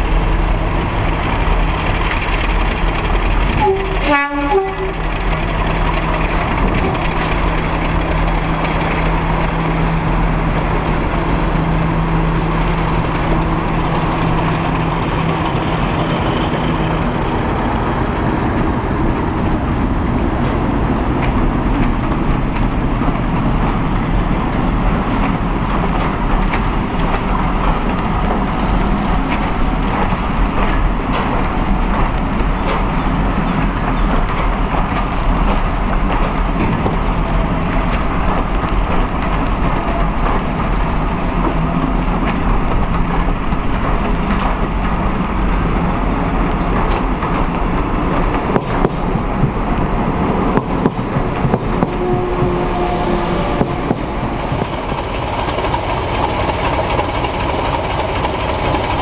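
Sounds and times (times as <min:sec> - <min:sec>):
diesel locomotive engine: 0:00.0 - 0:59.0
train coaches rumbling: 0:00.0 - 0:59.0
wheels clicking over rail joints: 0:00.0 - 0:59.0.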